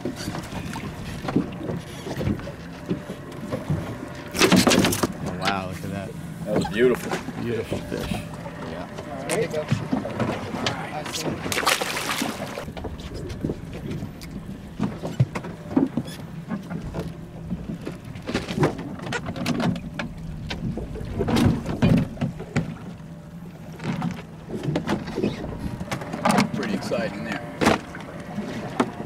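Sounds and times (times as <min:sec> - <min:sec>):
knocks and clatter on boat: 0:00.0 - 0:29.0
steady low hum: 0:00.0 - 0:29.0
water splashing against boat hull: 0:00.0 - 0:29.0.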